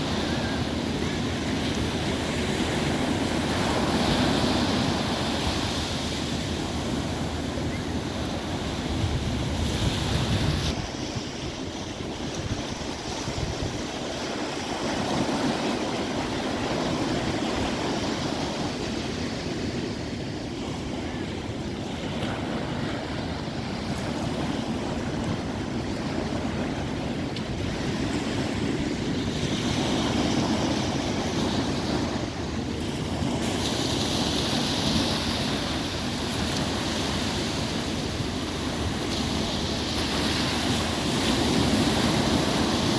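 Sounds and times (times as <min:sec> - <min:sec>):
sea surf breaking on beach: 0:00.0 - 0:42.9
wind buffeting microphone: 0:00.0 - 0:42.9.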